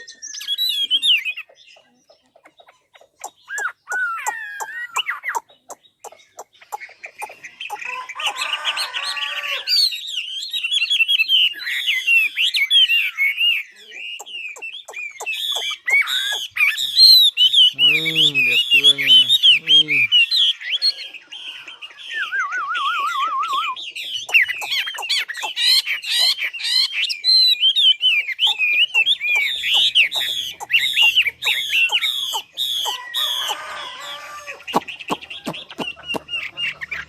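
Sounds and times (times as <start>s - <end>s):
songbird singing whistled trills: 0.0s - 9.0s, 9.8s - 37.0s
low wavering bird trill: 2.6s - 37.0s.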